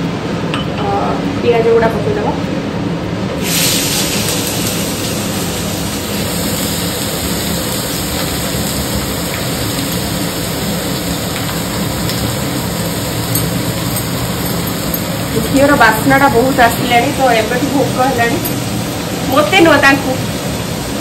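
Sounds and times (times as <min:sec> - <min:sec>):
onions sizzling in hot fat: 0:03.4 - 0:21.0.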